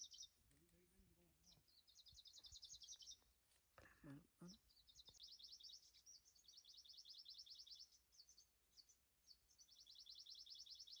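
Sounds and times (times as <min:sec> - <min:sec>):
small bird chirping trill: 0:00.0 - 0:11.0.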